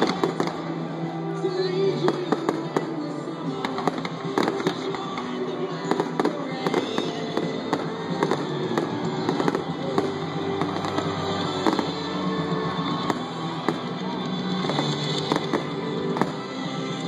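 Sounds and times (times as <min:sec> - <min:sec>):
fireworks bangs and crackles: 0:00.0 - 0:00.9, 0:01.9 - 0:17.0
music: 0:00.0 - 0:17.0.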